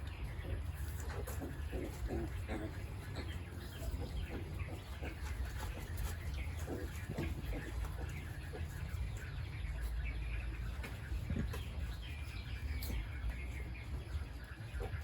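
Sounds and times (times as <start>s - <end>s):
animal chirps and clucks: 0.0s - 15.0s.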